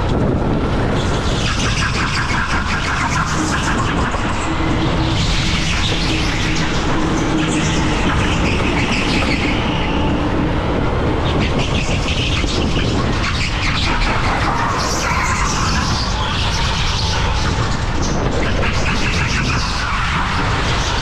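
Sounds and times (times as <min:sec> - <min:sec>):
loud rushing noise: 0:00.0 - 0:21.0.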